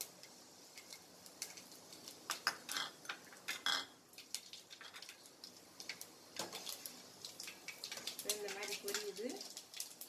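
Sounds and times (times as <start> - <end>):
seeds spluttering in hot oil: 0.0 - 10.0.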